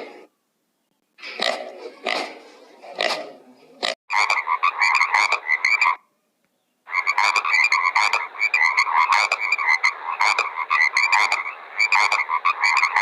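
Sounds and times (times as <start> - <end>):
chorus of animals calling: 1.2 - 6.0, 6.9 - 13.0.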